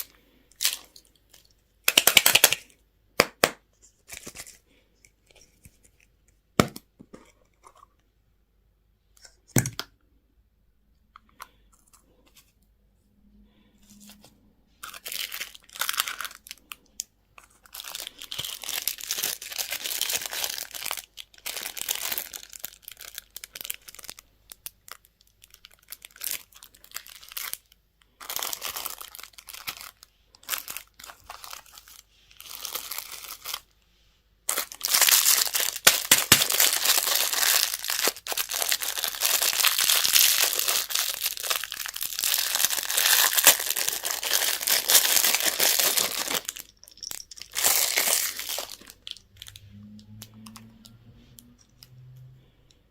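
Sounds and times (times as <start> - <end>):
candy wrappers crinkling: 0.0 - 6.2, 14.8 - 33.8, 34.5 - 52.2.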